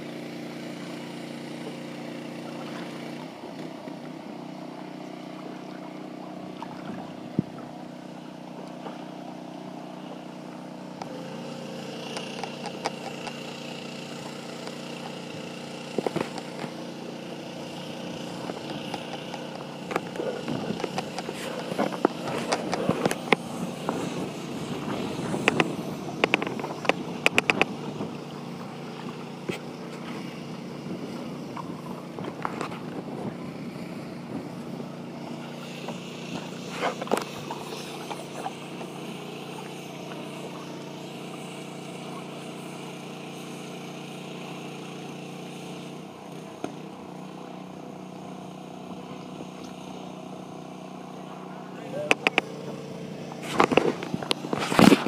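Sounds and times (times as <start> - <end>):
steady engine drone: 0.0 - 55.0.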